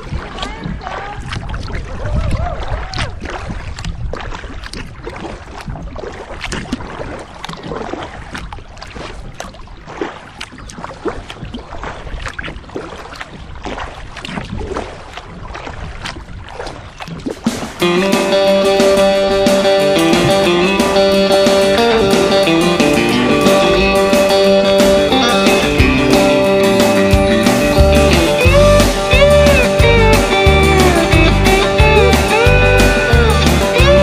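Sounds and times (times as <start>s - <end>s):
paddle splashes and drips: 0.0s - 34.0s.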